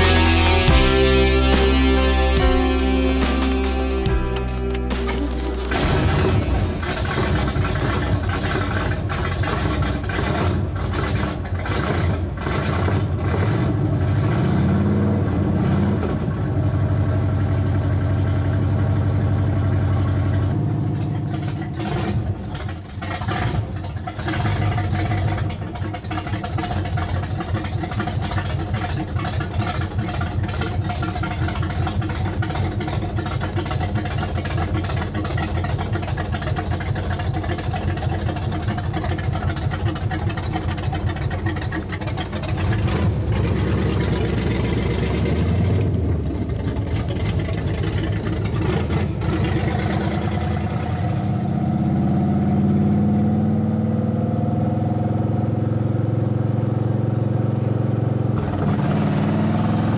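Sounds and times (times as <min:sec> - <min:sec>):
engine revving and idling: 0:00.0 - 0:59.9.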